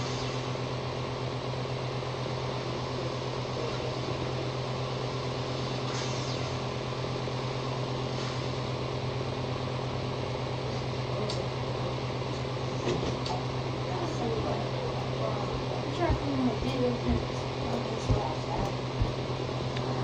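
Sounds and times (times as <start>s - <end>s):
electric fan humming: 0.0s - 20.0s.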